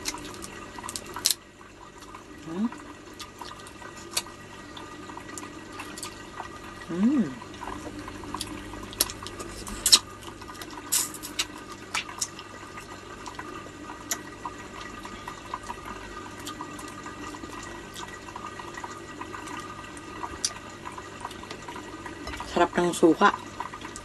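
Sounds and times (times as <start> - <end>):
running water trickling: 0.0 - 24.0.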